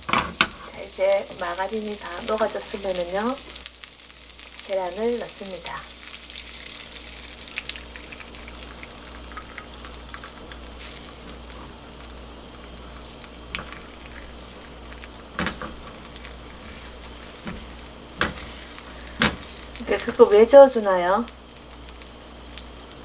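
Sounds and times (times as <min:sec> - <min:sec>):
egg sizzling in pan: 0:00.0 - 0:23.0.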